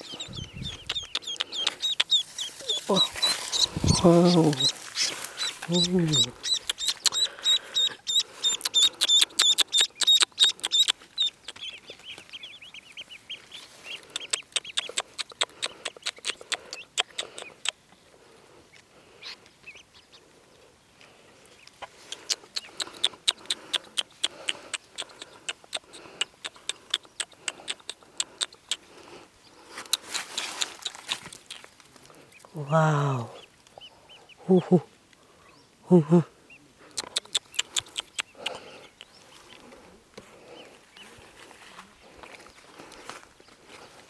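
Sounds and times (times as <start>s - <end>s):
ducklings peeping: 0.0s - 18.0s, 18.7s - 41.4s.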